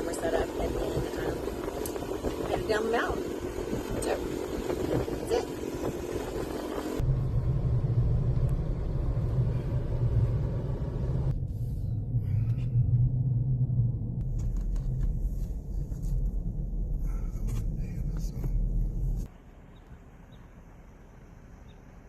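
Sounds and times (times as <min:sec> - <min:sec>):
vehicle driving rumble: 0:00.0 - 0:22.0.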